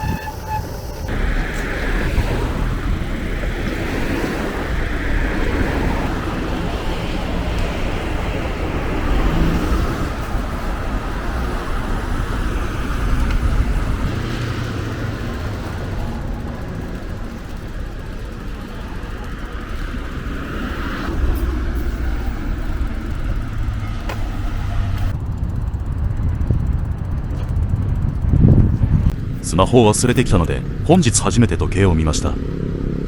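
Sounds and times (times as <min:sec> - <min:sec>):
cars passing: 0:00.0 - 0:33.0
low traffic rumble: 0:00.0 - 0:33.0.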